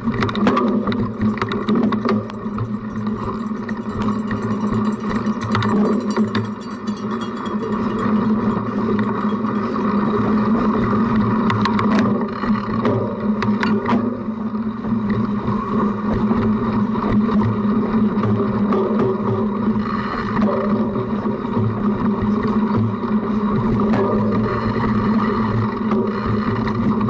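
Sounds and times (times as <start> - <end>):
bike rattling over rough ground: 0.0 - 27.0
bike tyres rolling hum: 0.0 - 27.0.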